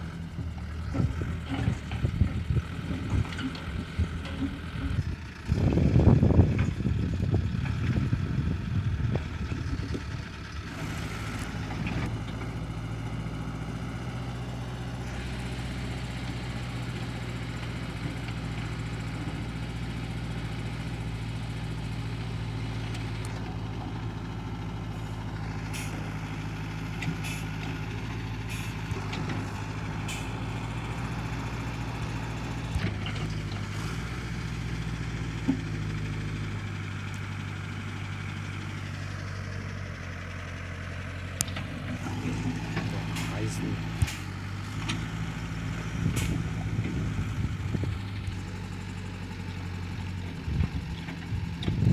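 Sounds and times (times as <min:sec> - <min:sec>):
excavator diesel engine idling: 0:00.0 - 0:51.9.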